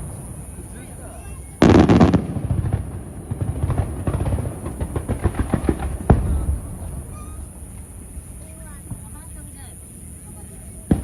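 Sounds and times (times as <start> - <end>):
fireworks bang: 0.0 - 11.0
fireworks crackling: 0.0 - 11.0.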